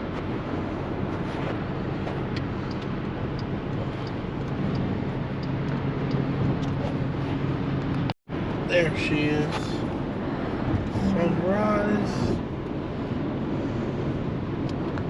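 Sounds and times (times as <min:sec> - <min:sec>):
car cabin road noise: 0:00.0 - 0:15.0
low engine hum: 0:00.0 - 0:15.0.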